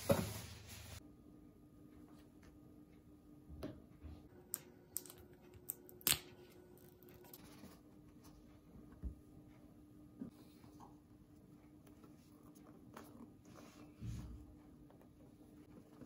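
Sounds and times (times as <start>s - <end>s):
faint steady hum: 0.2s - 16.0s.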